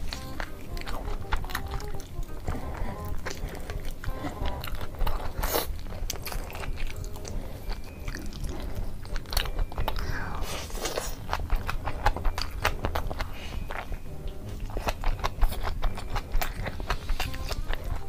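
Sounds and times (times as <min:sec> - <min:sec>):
crunchy chewing of fried chicken: 0:00.0 - 0:18.0.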